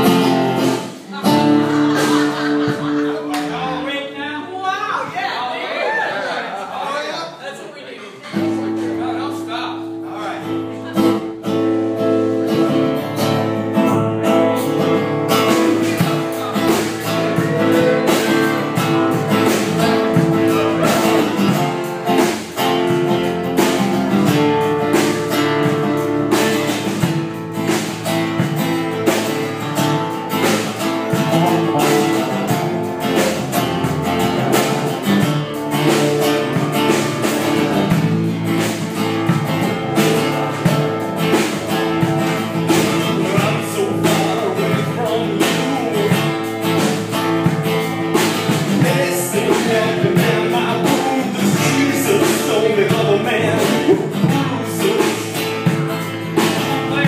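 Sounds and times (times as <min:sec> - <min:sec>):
electric guitar: 0:00.0 - 0:03.7, 0:09.9 - 0:57.0
strummed acoustic guitar: 0:00.0 - 0:04.2, 0:08.2 - 0:57.0.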